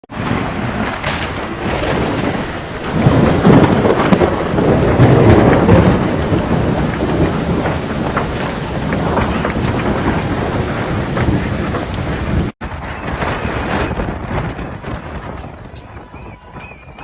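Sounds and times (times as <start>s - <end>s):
heavy rain: 0.1s - 17.0s
strong gusting wind: 0.1s - 17.0s.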